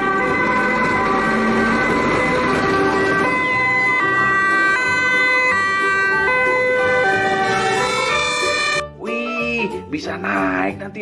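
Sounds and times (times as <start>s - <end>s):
fire engine two-tone siren: 0.0s - 8.8s.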